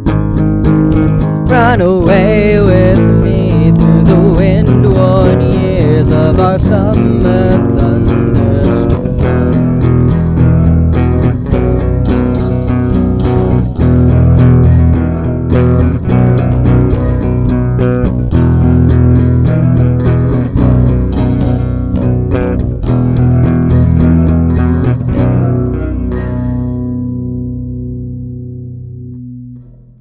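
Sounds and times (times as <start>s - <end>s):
bass guitar: 0.0s - 30.0s
plucked string instruments: 0.0s - 30.0s.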